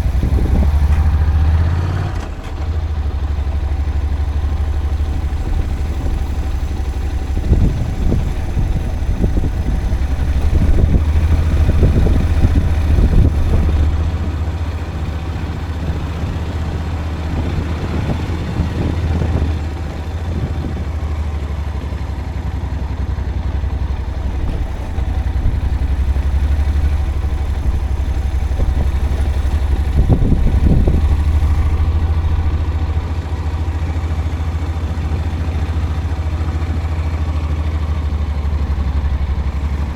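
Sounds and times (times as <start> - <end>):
vehicle jolting and rattling: 0.0 - 20.9, 23.7 - 39.9
vehicle engine running: 0.0 - 39.9.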